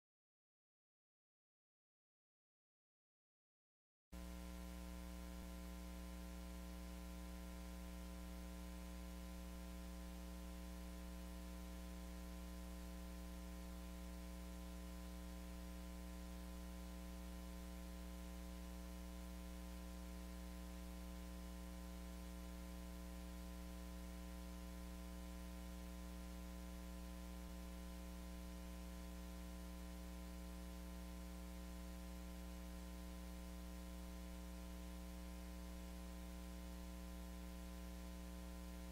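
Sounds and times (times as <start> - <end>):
electrical mains hum with hiss: 4.2 - 38.9.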